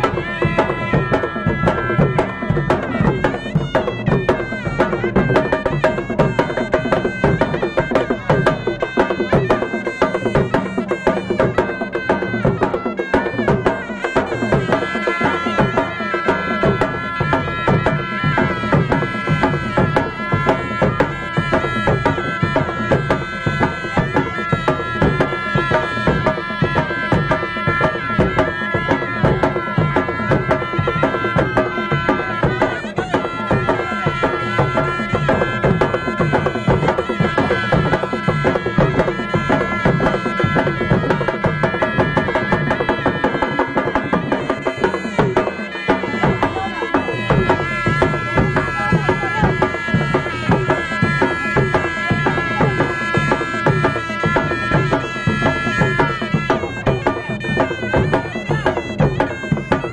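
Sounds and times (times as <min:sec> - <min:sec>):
fast traditional drumming: 0:00.0 - 0:59.9.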